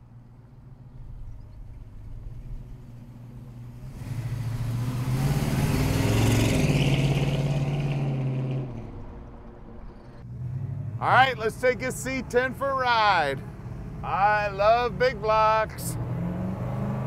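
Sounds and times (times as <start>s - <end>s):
truck engine accelerating past: 1.0s - 17.0s.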